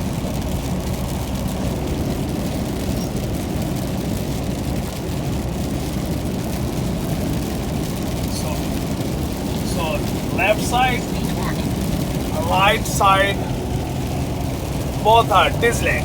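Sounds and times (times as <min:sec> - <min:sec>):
car tyres and engine rumble: 0:00.0 - 0:16.0
hiss of rain and spray: 0:00.0 - 0:16.0.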